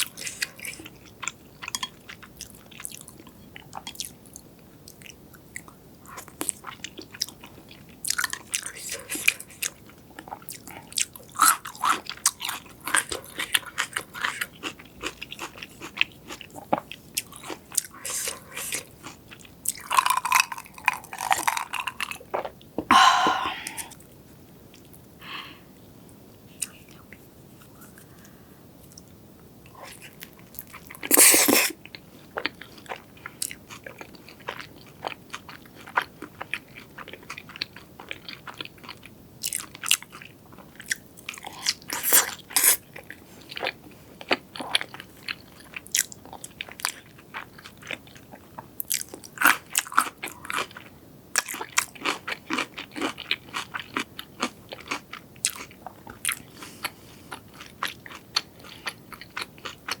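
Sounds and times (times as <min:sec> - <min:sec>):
crunchy food chewing: 0:00.0 - 0:22.6, 0:26.6 - 1:00.0.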